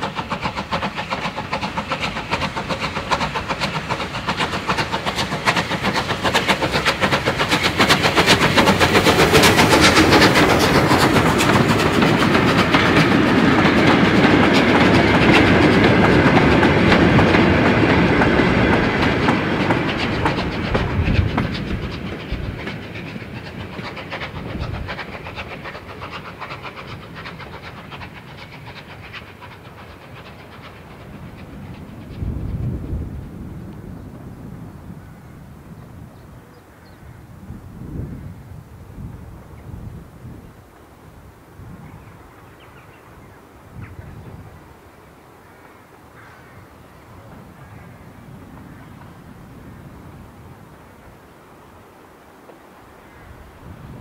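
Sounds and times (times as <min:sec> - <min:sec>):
steam locomotive passing: 0:00.0 - 0:54.0.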